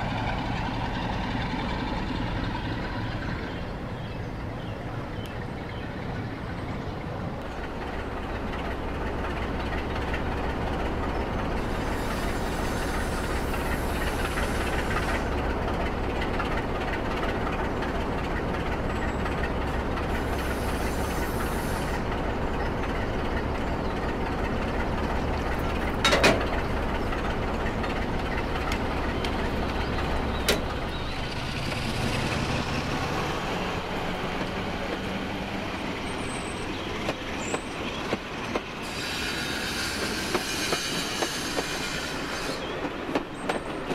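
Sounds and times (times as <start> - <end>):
diesel locomotive engine humming: 0.0 - 43.9.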